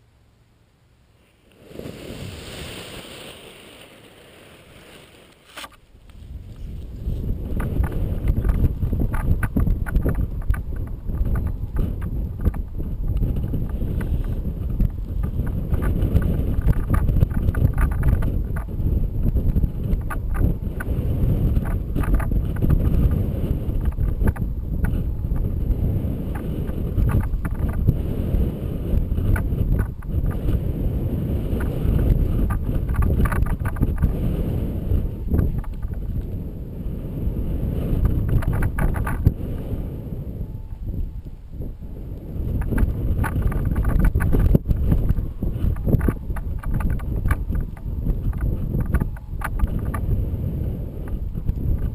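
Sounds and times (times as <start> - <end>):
wind rumbling on microphone: 1.6 - 51.9.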